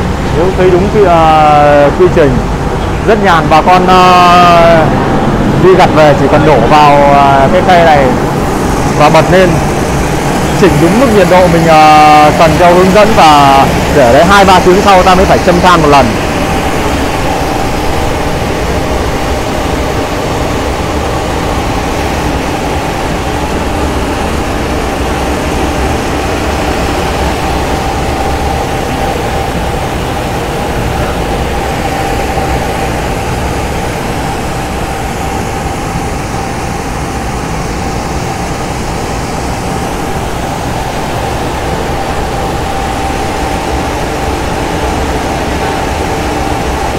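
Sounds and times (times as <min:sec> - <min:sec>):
blower fan hum and whine: 0:00.0 - 0:46.9.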